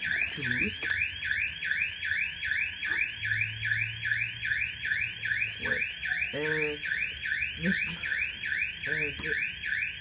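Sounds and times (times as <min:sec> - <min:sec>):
electronic alarm siren whooping: 0:00.0 - 0:10.0.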